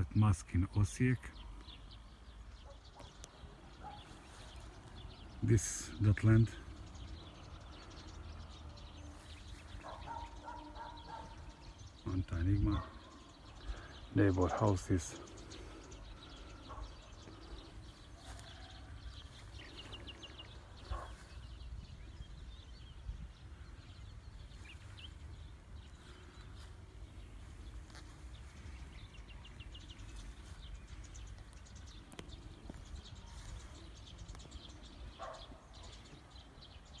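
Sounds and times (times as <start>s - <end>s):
birds trilling: 0.0s - 37.0s.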